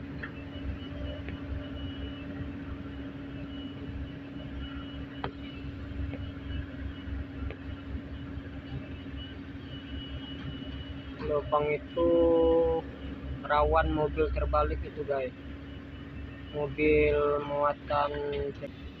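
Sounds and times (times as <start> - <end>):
excavator diesel engine humming: 0.0 - 19.0.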